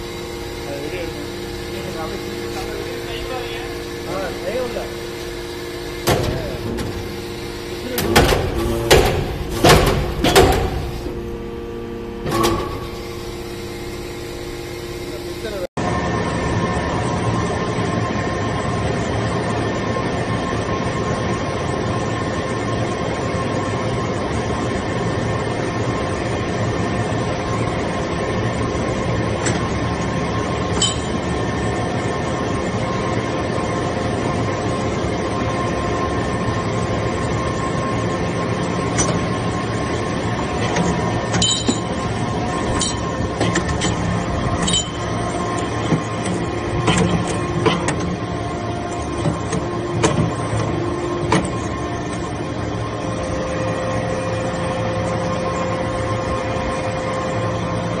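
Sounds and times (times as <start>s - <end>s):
hydraulic press hum: 0.0s - 16.8s, 26.1s - 58.0s.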